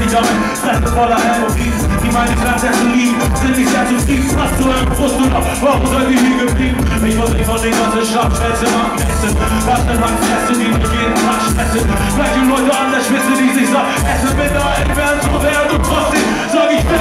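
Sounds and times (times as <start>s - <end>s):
loud beat with heavy bass: 0.0s - 17.0s
person rapping into a microphone: 0.0s - 17.0s.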